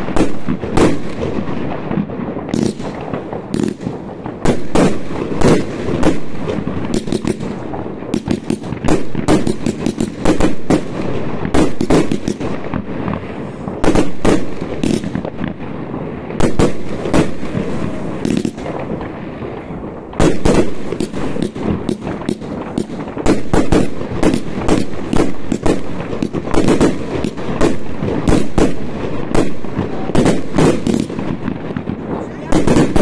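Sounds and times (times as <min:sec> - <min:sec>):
fireworks bangs and crackles: 0:00.0 - 0:33.0
fireworks rumble: 0:00.0 - 0:33.0.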